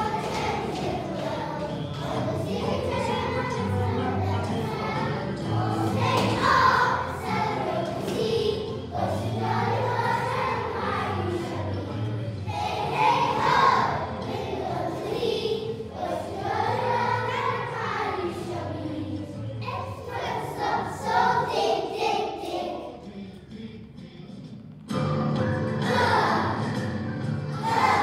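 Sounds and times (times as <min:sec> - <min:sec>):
children singing in unison: 0:00.0 - 0:23.2, 0:25.6 - 0:26.8, 0:27.4 - 0:28.0
backing music: 0:00.0 - 0:28.0.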